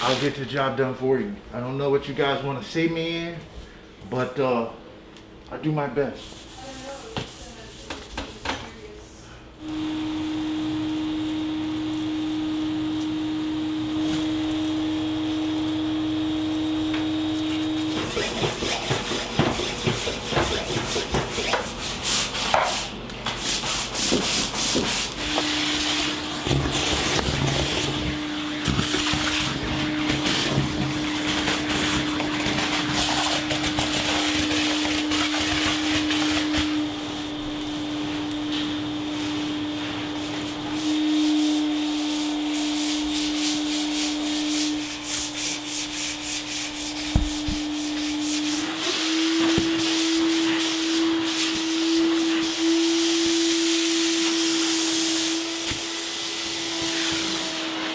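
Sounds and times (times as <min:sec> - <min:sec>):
stiff brush scrubbing floor: 0:00.0 - 0:00.8, 0:06.0 - 0:08.9, 0:09.6 - 0:57.9
vacuum humming: 0:08.4 - 0:57.9.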